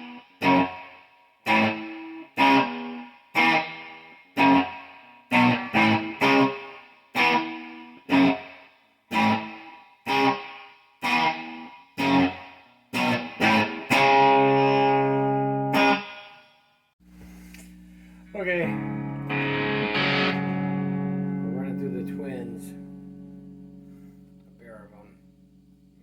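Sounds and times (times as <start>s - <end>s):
electric guitar chords ringing: 0.0s - 16.3s, 17.8s - 26.0s.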